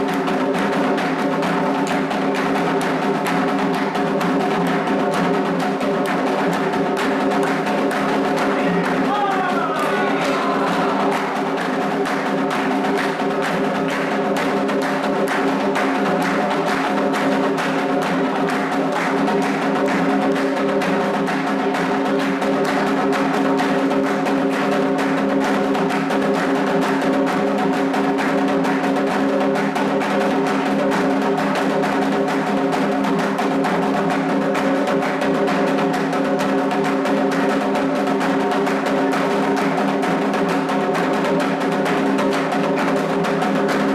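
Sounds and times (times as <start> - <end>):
hand drums fast rhythm: 0.0 - 43.9.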